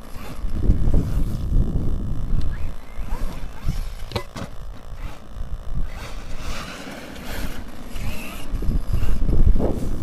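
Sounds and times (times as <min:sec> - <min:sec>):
electric motor whining: 0:00.0 - 0:10.0
wind buffeting microphone: 0:00.0 - 0:10.0.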